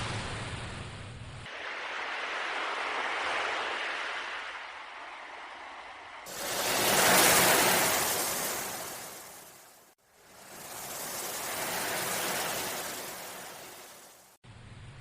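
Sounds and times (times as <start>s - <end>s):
sea waves washing in: 1.5s - 14.4s.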